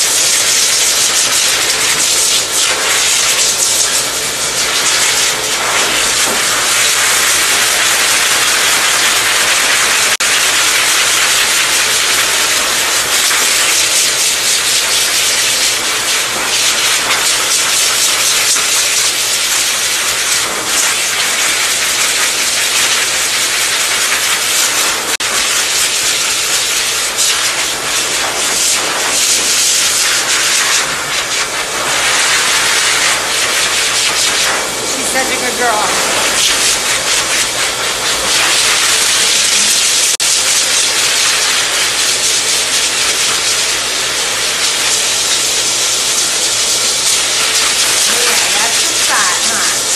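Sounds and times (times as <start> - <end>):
dog dryer blowing air: 0.0 - 49.9.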